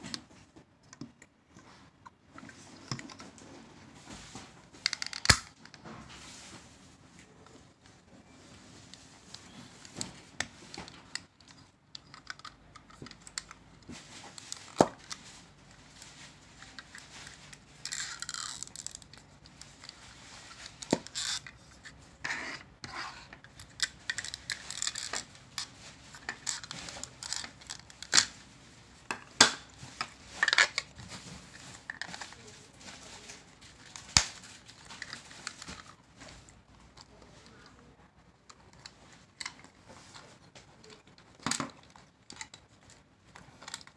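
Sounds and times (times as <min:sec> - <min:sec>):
plastic clicking and scraping: 0:04.7 - 0:05.9, 0:08.9 - 0:28.4, 0:29.1 - 0:43.9.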